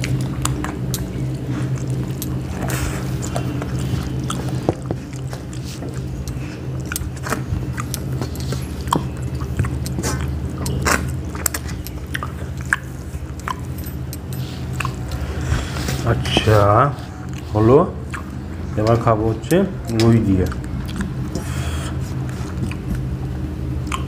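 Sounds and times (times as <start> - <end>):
people chewing and lip smacking: 0.0 - 24.0
steady low hum: 0.0 - 24.0.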